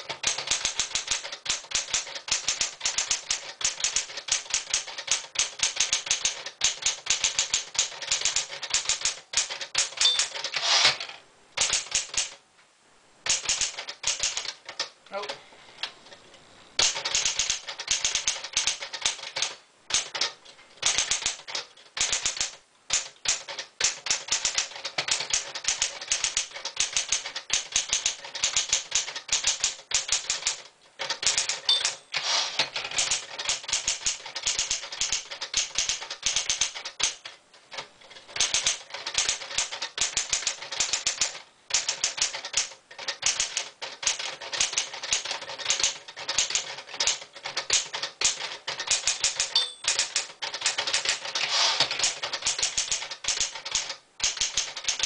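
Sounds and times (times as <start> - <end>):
manual typewriter clattering: 0.0 - 12.4, 13.2 - 15.0, 16.8 - 55.0.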